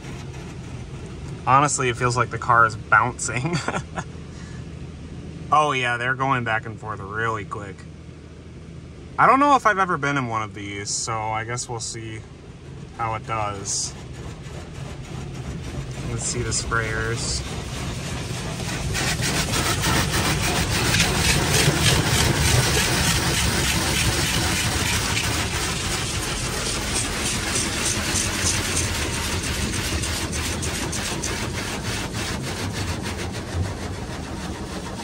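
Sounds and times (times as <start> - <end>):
car wash water jets spraying: 0.0 - 4.0, 9.2 - 35.0
low rumble: 0.0 - 7.9, 8.9 - 35.0.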